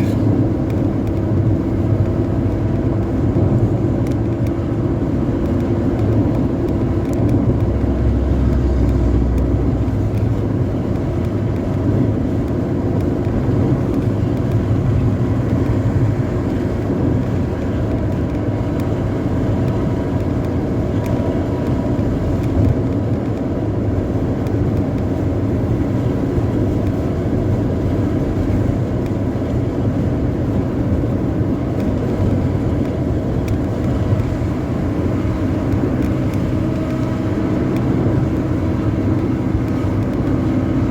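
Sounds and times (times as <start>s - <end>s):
bus engine drone: 0.0s - 40.9s
road noise: 0.0s - 40.9s.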